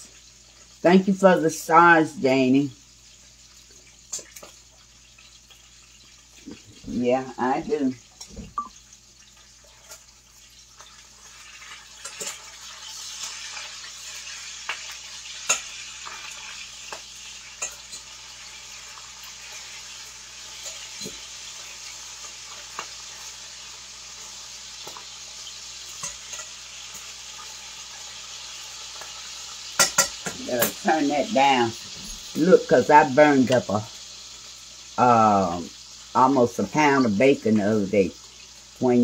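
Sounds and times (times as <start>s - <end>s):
bacon sizzling in a pan: 0.0s - 39.0s.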